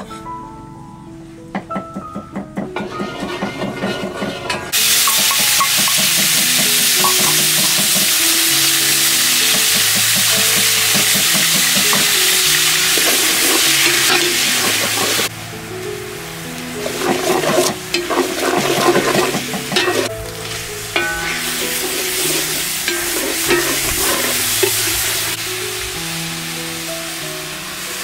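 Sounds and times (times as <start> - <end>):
soft background music: 0.0 - 28.0
hot oil sizzling in a pot: 2.8 - 28.0.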